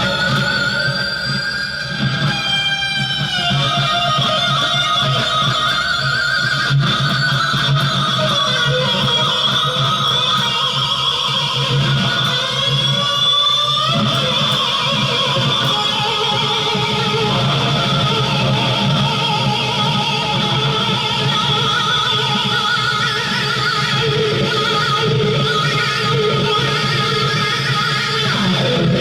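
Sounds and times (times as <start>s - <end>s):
strummed electric guitar: 0.0s - 29.0s.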